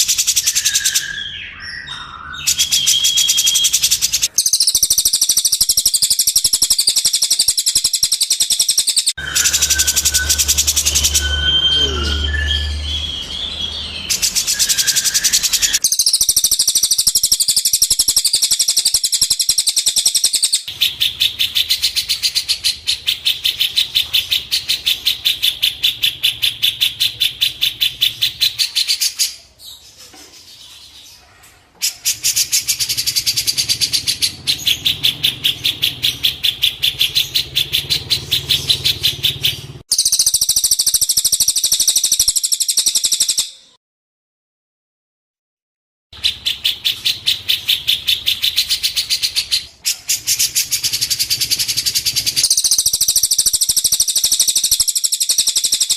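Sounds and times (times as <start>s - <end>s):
songbird trilling: 0.0s - 29.8s, 31.8s - 43.8s, 46.2s - 55.9s.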